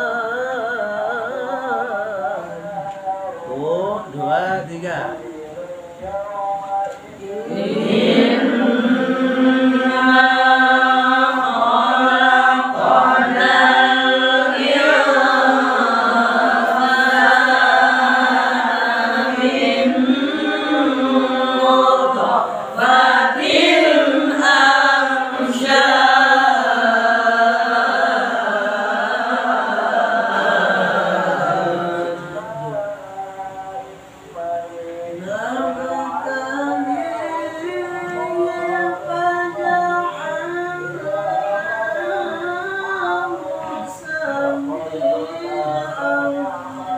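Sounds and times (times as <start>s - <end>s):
men reciting in melodic chant: 0.0s - 46.9s.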